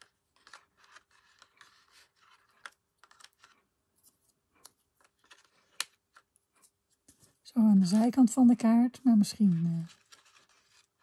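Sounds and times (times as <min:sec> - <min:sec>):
paper cut-outs tapping and rustling: 0:00.0 - 0:11.0.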